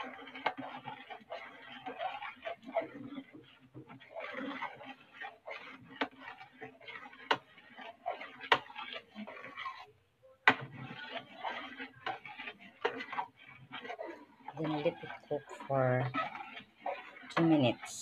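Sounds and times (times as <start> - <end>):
spoon stirring thick porridge: 0.0 - 18.0.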